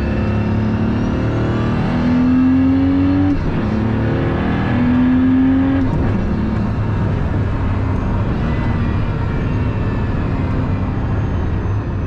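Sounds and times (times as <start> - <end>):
car engine accelerating hard: 0.0 - 12.0
road and wind noise: 0.0 - 12.0.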